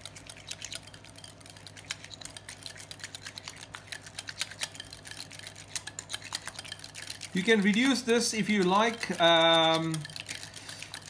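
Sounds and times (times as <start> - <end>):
steady low hum: 0.0 - 11.0
whisk clicking against glass bowl: 0.0 - 11.0.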